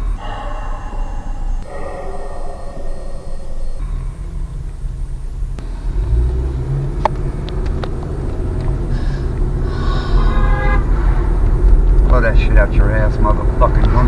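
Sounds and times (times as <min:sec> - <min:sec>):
car engine and road noise: 0:00.0 - 0:01.7, 0:03.6 - 0:14.0.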